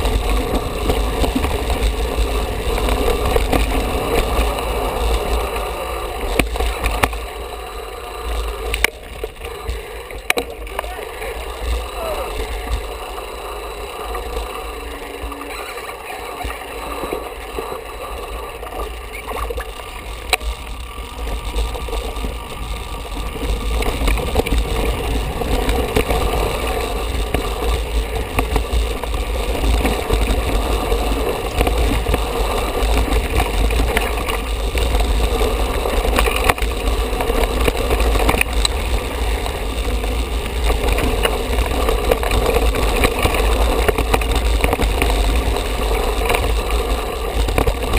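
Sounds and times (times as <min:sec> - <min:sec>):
bike rattling over rocky ground: 0:00.0 - 0:47.9.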